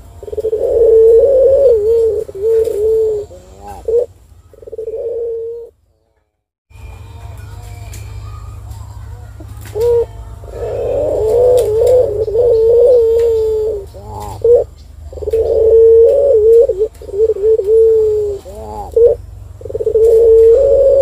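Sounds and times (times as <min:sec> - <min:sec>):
faint low hum: 0:00.0 - 0:21.0
dove cooing: 0:00.2 - 0:05.8, 0:09.6 - 0:21.0.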